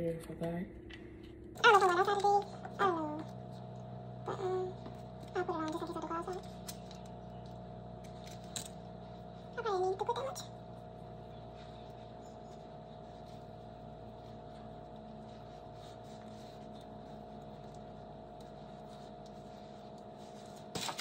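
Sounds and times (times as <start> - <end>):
room hum with mid-pitched tone: 0.0 - 21.0.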